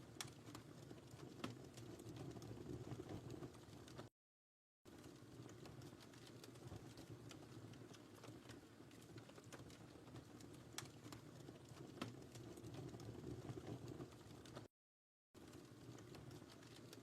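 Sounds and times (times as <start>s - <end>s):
wood fire crackling: 0.0s - 4.1s, 4.9s - 14.7s, 15.4s - 17.0s.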